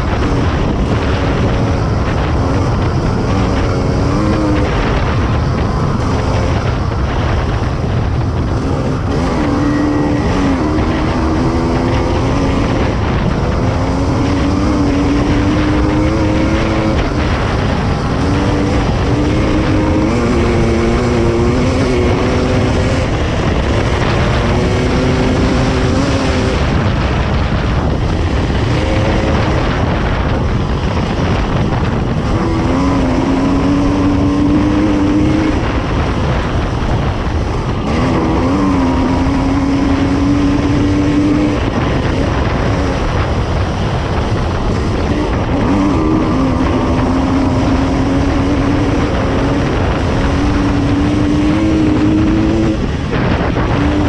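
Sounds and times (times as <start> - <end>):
dirt bike engine revving: 0.0 - 54.0
wind on microphone: 0.0 - 54.0.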